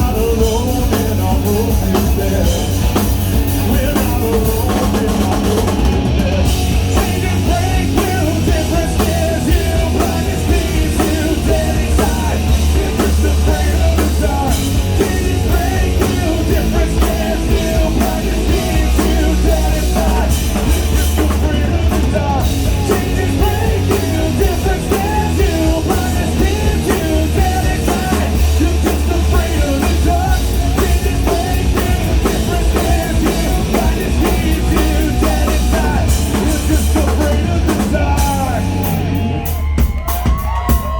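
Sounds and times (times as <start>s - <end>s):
loud rock band playing: 0.0s - 40.9s.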